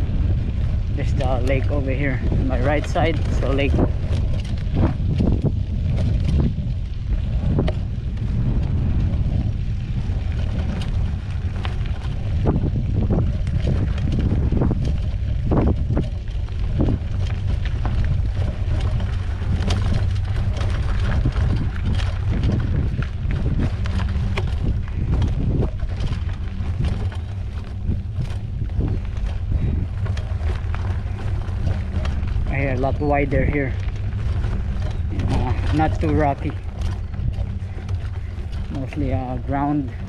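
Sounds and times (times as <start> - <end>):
bike clicks and rattles: 0.0 - 40.0
wind buffeting microphone: 0.0 - 40.0.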